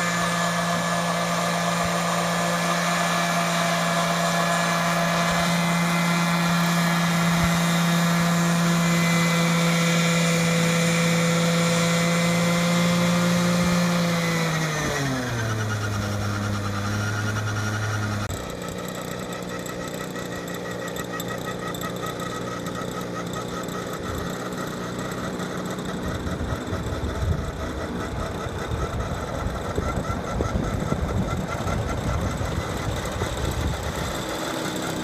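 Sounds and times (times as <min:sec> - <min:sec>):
rc helicopter engine running: 0:00.0 - 0:35.0.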